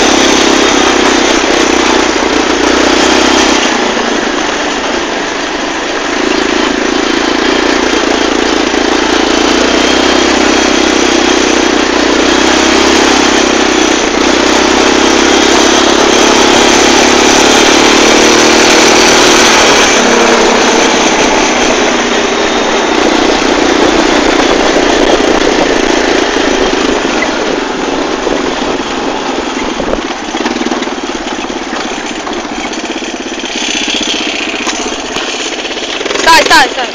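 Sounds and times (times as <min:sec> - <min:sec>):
atv engine running: 0:00.0 - 0:36.9.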